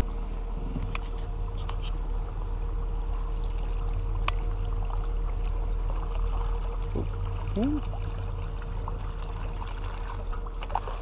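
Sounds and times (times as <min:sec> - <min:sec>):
boat engine hum: 0:00.0 - 0:11.0
faint water sounds: 0:00.0 - 0:11.0.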